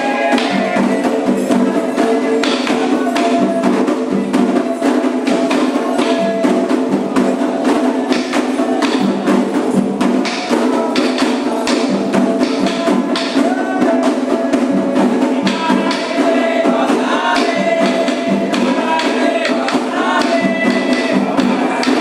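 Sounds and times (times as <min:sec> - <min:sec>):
hand drums: 0:00.0 - 0:22.0.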